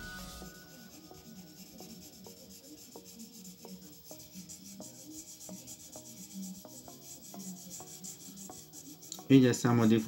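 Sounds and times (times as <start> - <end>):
faint background music: 0.0 - 10.0
scratchy rubbing on paper: 0.2 - 10.0.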